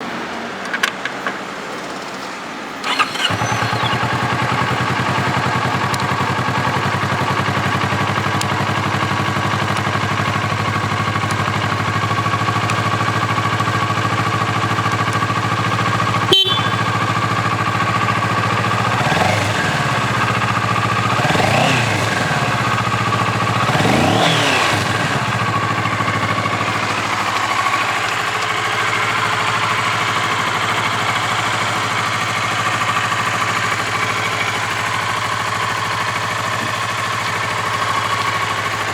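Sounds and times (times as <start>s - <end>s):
engine revving: 2.8s - 38.9s
motorcycle engine starting and idling: 2.8s - 38.9s.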